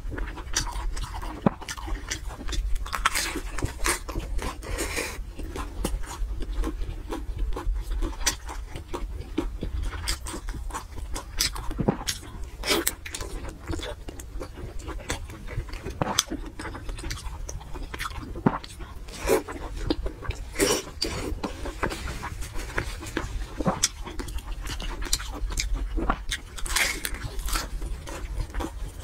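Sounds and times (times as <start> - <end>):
person chewing with mouth smacks: 0.0 - 29.0.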